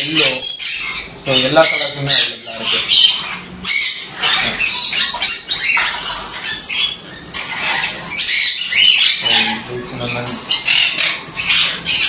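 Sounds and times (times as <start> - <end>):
parrots chattering and squawking: 0.0 - 12.0.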